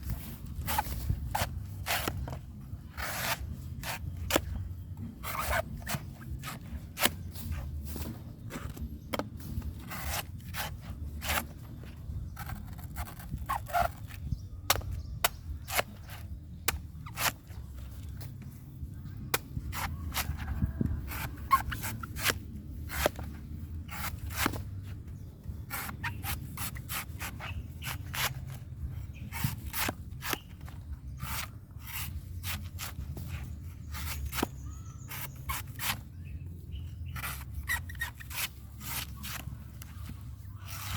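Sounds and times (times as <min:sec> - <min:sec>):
knife scraping coconut husk: 0:00.0 - 0:18.6, 0:19.3 - 0:40.9.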